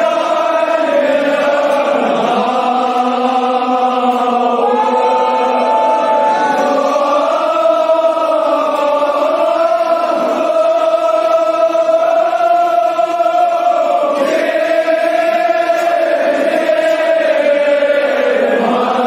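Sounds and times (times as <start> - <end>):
voices chanting a lament: 0.0 - 19.0.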